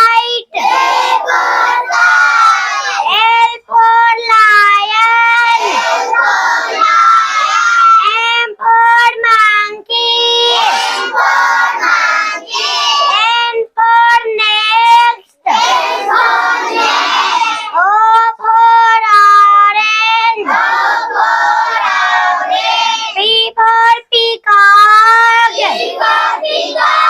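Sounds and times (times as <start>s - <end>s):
child singing: 0.0s - 27.0s.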